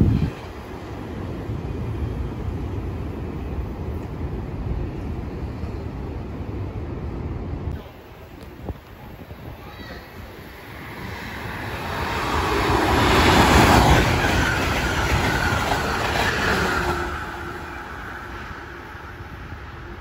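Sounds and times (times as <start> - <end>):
train passing at speed: 0.0 - 20.0.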